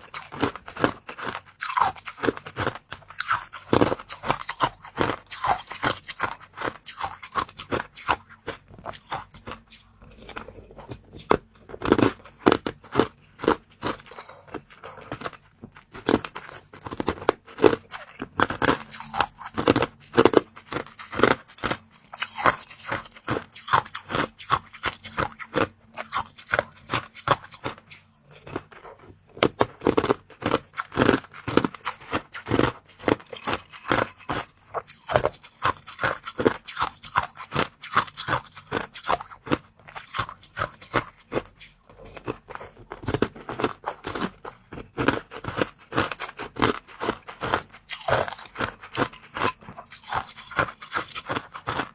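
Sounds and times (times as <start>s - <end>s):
person crunching treats: 0.0s - 51.9s.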